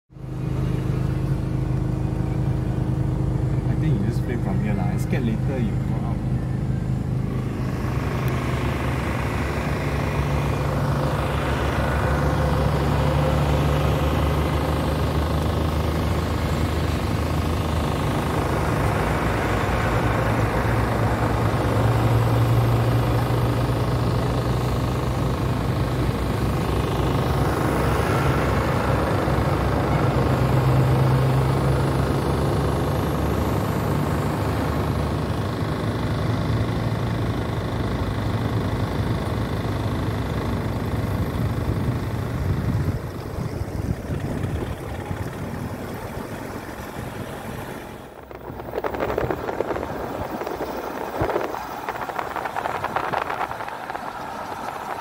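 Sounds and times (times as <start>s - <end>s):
diesel trucks driving past: 0.1s - 55.0s.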